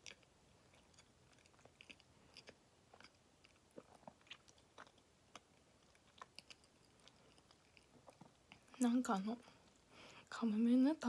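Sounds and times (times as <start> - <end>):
faint chewing: 0.0 - 10.4.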